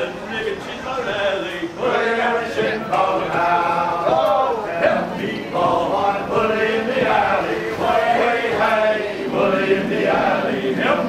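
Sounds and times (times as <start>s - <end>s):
male choir chanting: 0.0s - 11.0s.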